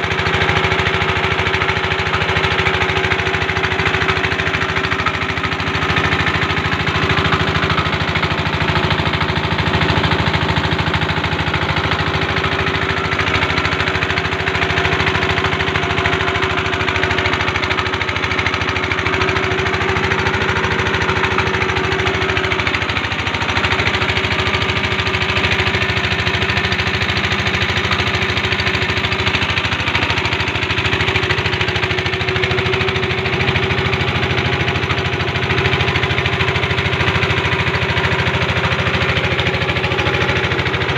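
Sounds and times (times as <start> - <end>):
small petrol boat engine running: 0.0 - 40.9.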